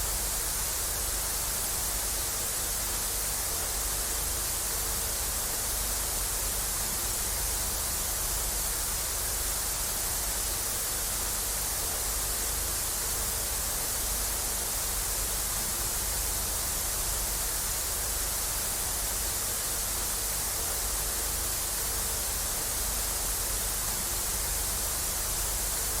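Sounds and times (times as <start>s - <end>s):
tv static hiss: 0.0s - 26.0s.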